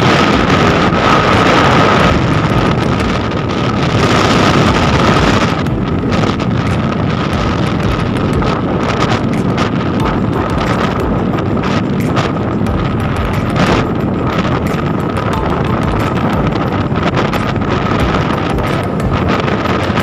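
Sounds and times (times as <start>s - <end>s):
steady high whine: 0.0s - 20.0s
vehicle engine and road noise: 0.0s - 20.0s
wind buffeting microphone: 0.0s - 20.0s.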